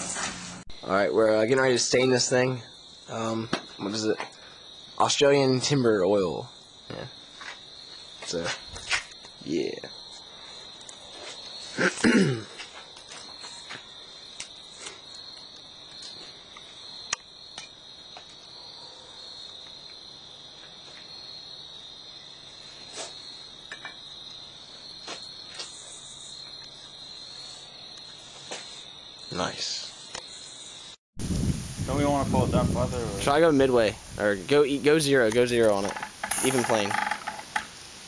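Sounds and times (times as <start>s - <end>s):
crickets chirring: 0.7s - 38.0s.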